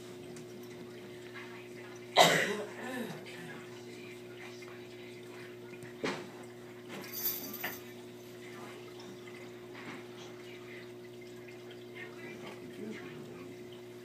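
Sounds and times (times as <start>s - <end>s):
aquarium equipment humming: 0.0s - 14.0s
faint trickling water: 0.0s - 14.0s.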